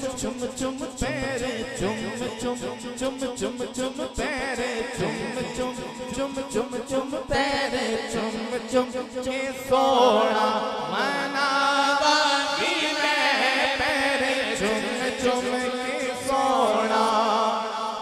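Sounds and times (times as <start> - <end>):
man singing through microphone: 0.0 - 18.0.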